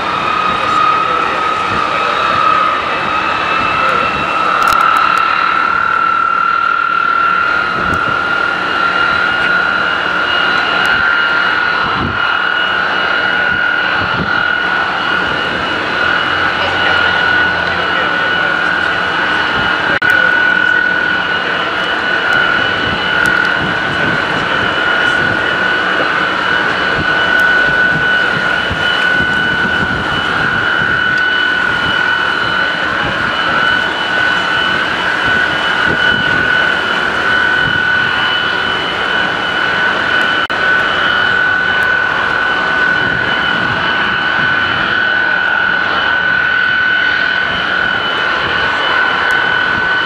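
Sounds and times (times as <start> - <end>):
jet engines whining and rumbling: 0.0 - 50.0.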